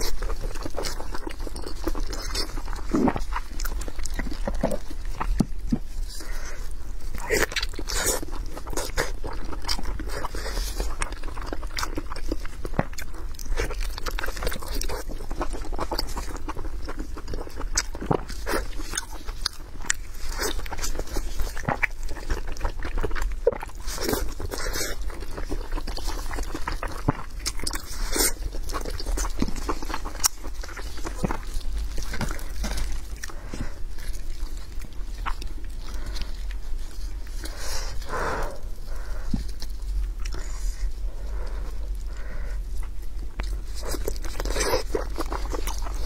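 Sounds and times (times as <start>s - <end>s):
chewing and lip-smacking: 0.0s - 46.0s.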